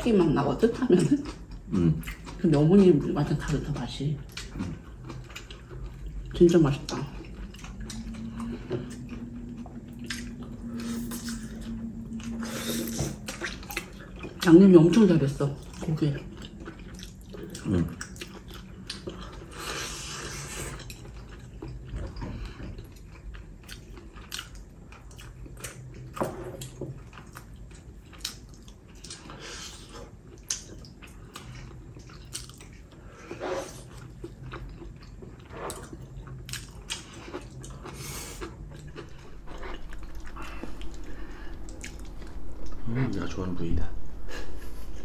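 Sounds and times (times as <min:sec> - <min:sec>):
people chewing chicken: 0:00.2 - 0:42.8.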